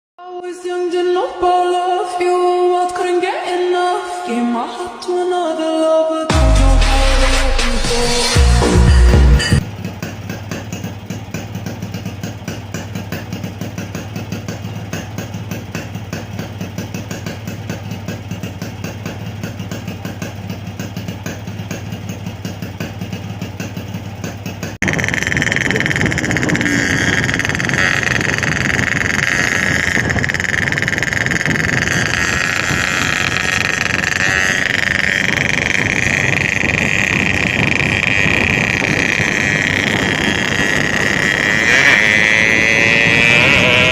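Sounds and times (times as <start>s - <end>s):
two-stroke motorcycle engine: 6.3s - 43.9s.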